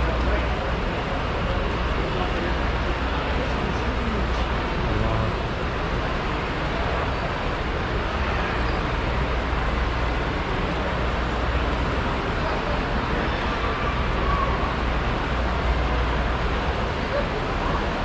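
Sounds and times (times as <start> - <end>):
crowd voices: 0.0 - 18.0.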